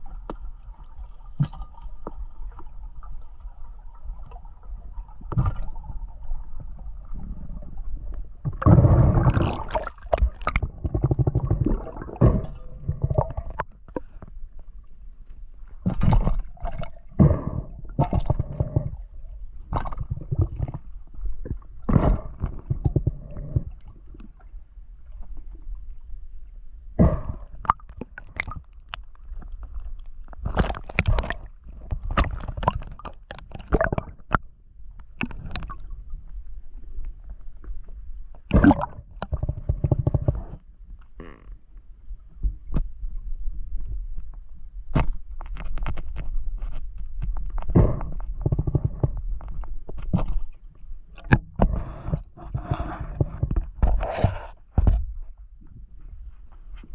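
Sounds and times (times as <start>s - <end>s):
low underwater rumble: 0.0s - 56.9s.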